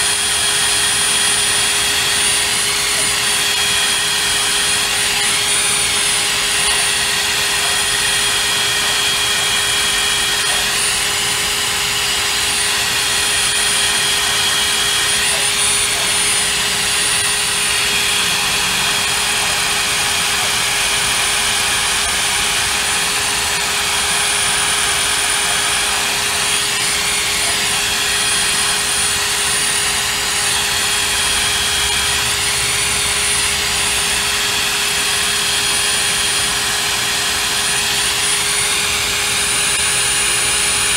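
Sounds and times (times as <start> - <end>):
drill motor whine: 0.0 - 40.9.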